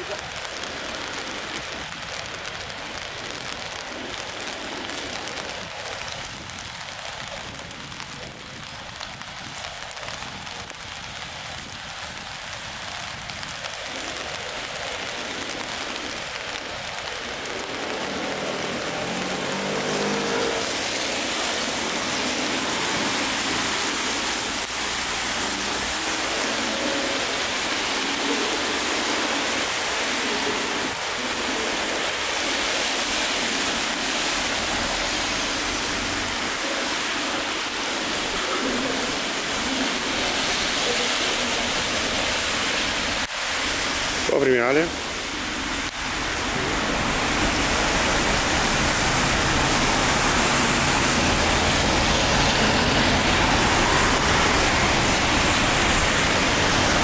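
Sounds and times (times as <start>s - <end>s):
rain on wet pavement: 0.0s - 57.0s
traffic on wet street: 0.0s - 57.0s.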